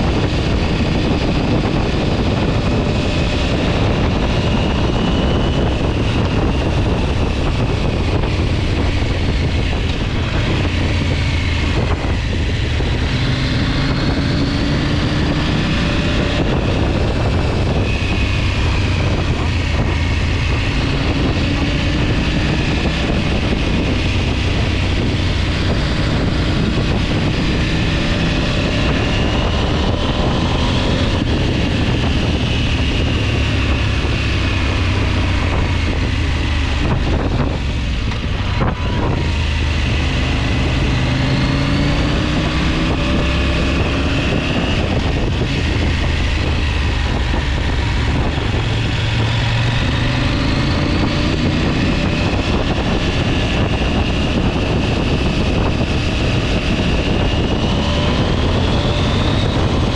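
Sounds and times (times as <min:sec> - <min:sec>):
engine running: 0:00.0 - 0:59.9
wind rush: 0:00.0 - 0:59.9.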